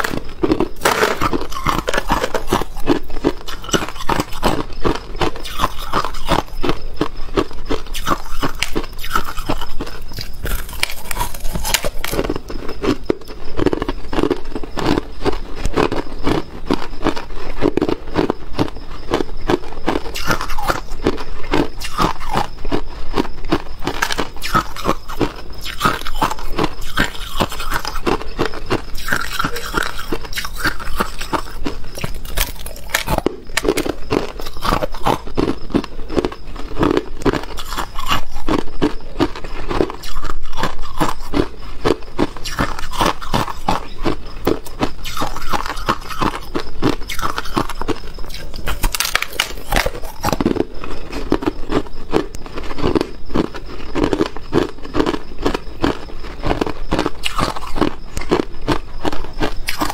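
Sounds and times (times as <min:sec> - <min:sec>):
crushed ice being chewed: 0:00.0 - 0:59.9.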